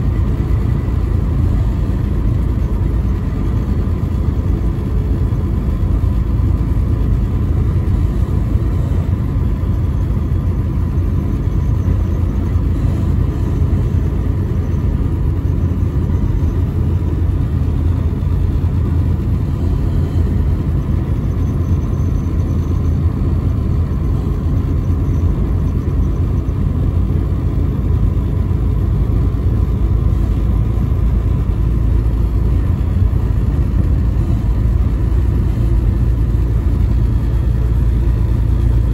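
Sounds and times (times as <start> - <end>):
engine and tyre noise in vehicle: 0.0 - 38.9.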